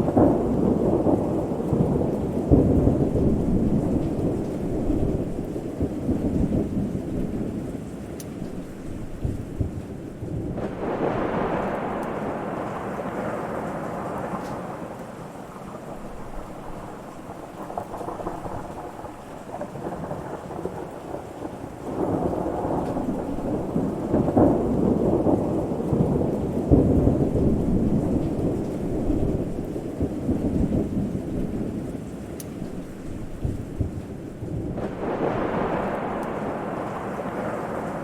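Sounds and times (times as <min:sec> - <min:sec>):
rolling thunder: 0:00.0 - 0:38.0
steady rain: 0:00.0 - 0:38.0.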